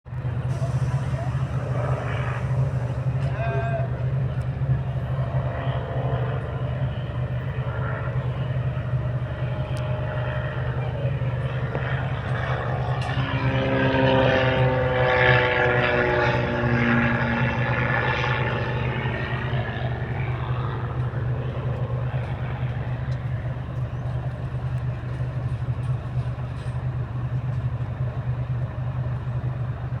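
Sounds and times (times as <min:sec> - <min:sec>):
propeller plane flying past: 0:00.1 - 0:30.0
steady low hum: 0:00.1 - 0:30.0.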